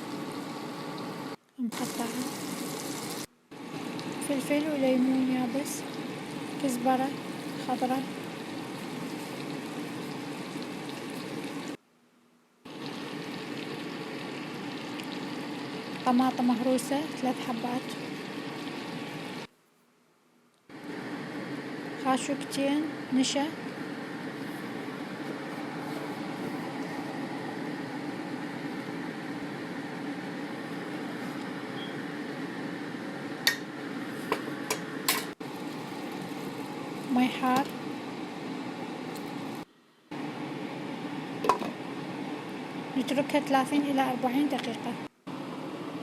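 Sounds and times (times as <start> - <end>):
food sizzling in a pot: 0.0 - 11.8, 12.7 - 19.5, 20.8 - 44.6
steady kitchen hum: 0.0 - 46.0.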